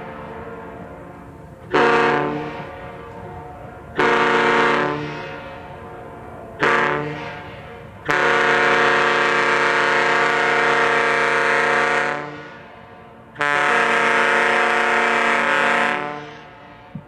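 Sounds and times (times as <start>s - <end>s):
air horn blowing chord: 0.0s - 17.0s.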